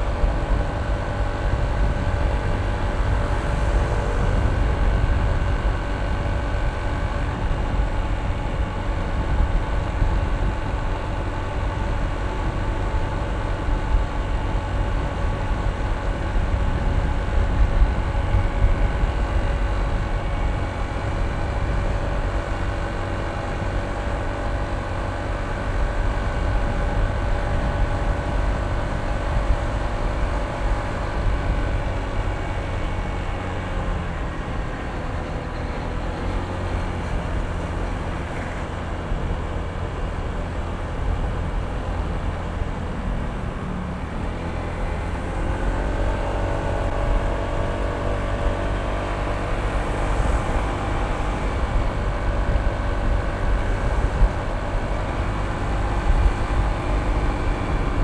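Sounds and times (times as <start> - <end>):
scooter engine running: 0.0 - 58.0
wind rumble on the microphone: 0.0 - 58.0.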